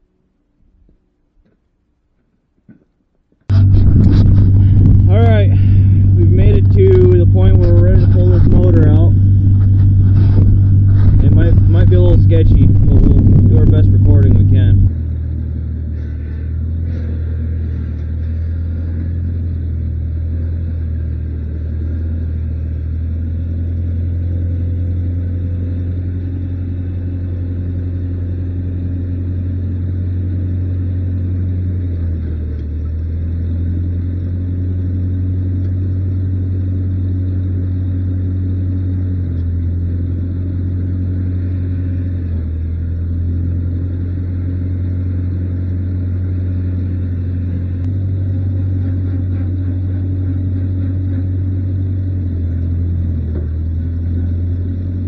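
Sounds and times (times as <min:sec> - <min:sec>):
engine humming: 0:03.4 - 0:55.0.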